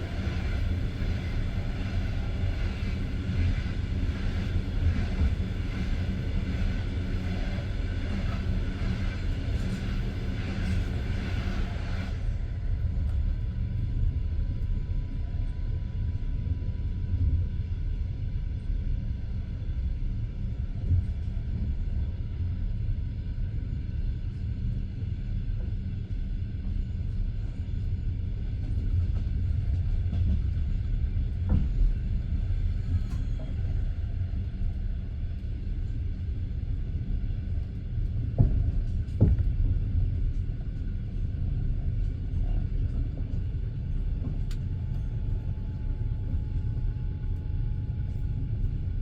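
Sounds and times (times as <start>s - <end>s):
train wheels rumbling on rails: 0.0s - 15.5s, 20.2s - 49.0s.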